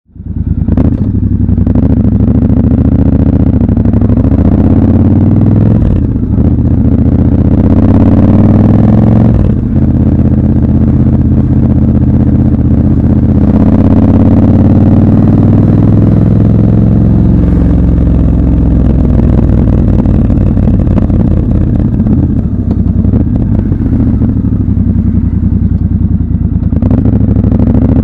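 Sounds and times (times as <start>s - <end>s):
motorcycle engine running: 0.1s - 28.0s.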